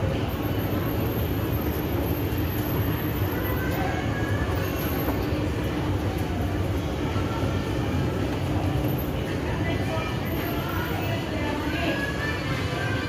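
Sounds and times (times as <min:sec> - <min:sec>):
murmur of distant voices: 0:00.0 - 0:13.0.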